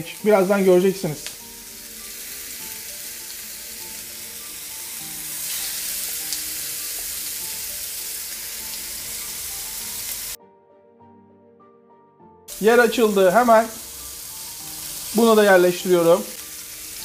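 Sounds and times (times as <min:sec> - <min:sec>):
meat patties sizzling in a pan: 0:00.0 - 0:10.4, 0:12.5 - 0:17.0.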